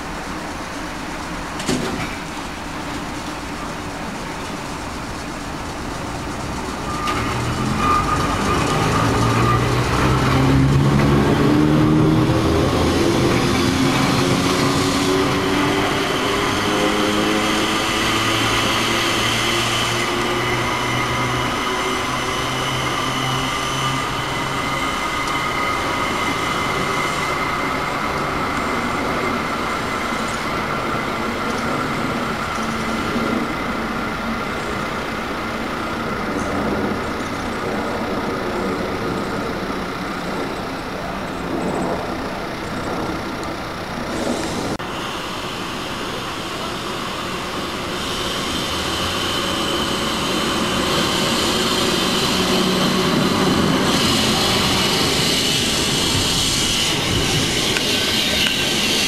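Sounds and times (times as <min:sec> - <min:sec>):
electric railcar high-pitched whine: 0:00.0 - 0:59.0
railcar running noise: 0:00.0 - 0:59.0.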